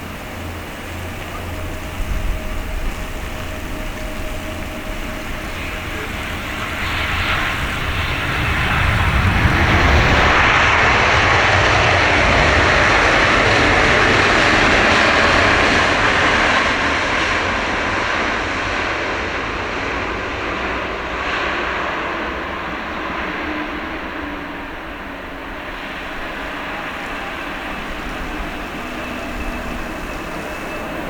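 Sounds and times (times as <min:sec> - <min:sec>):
airliner jet engines landing: 0:00.0 - 0:31.0.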